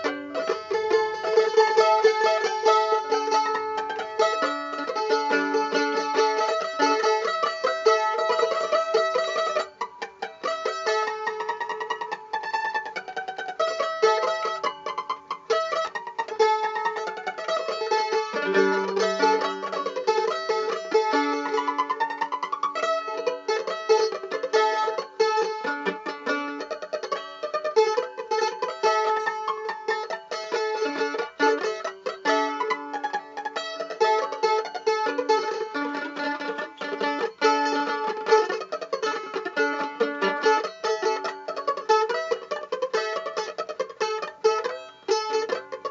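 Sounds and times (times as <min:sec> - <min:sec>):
plucked string instrument music: 0:00.0 - 0:45.9.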